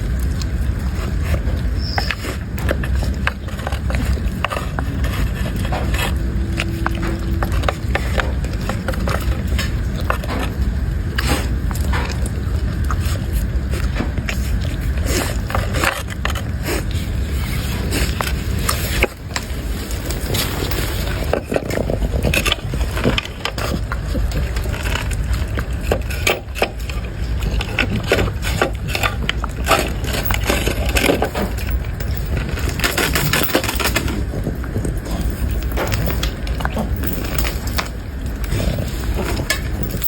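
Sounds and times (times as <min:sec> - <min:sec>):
dog crunching hard food: 0:00.0 - 0:40.0
steady low rumble: 0:00.0 - 0:40.0.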